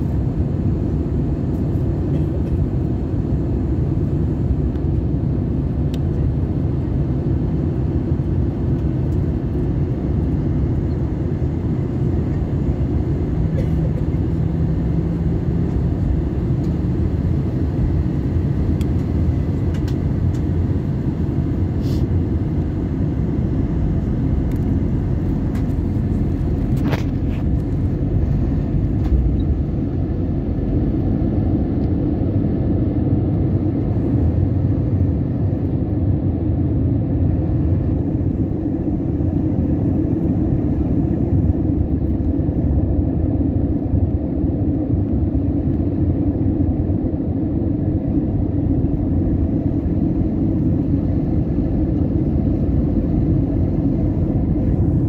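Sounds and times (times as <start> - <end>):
aircraft cabin engine noise: 0.0 - 55.0.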